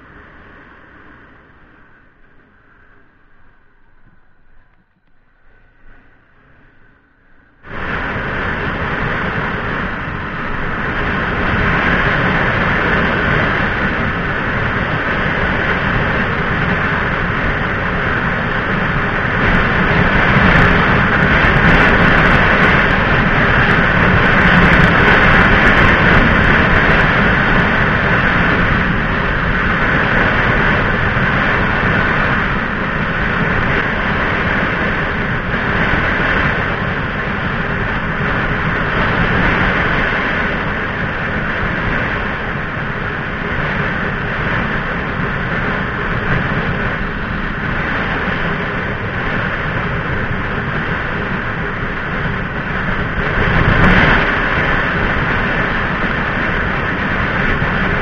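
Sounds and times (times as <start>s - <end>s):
muffled motorcycle riding noise: 0.0s - 58.0s.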